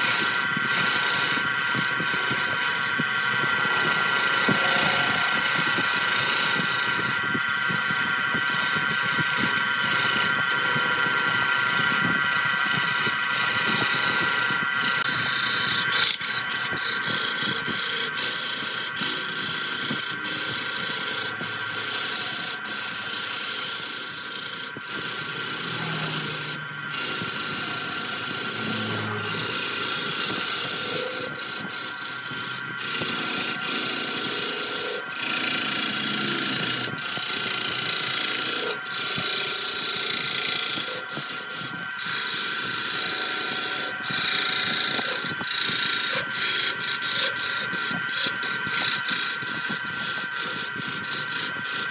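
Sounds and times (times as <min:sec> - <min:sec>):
lathe tool scraping wood: 0:00.0 - 0:51.9
lathe whine: 0:00.0 - 0:51.9.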